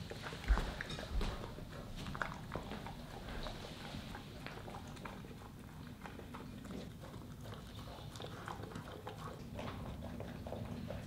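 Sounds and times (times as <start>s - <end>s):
dog chewing kibble: 0.0s - 11.0s.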